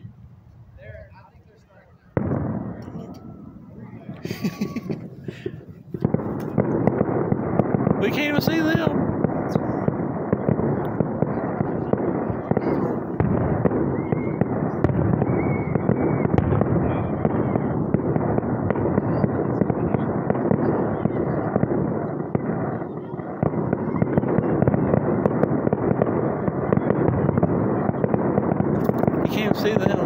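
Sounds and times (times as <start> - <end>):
fireworks booming and crackling: 0.0 - 30.0
deep rumble: 5.0 - 30.0.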